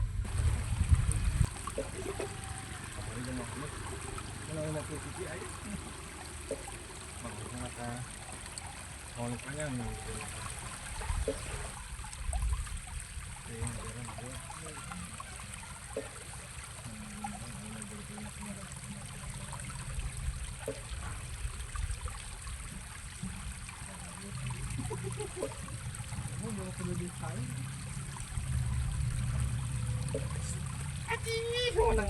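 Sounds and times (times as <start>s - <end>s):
stream water running: 0.0s - 32.0s.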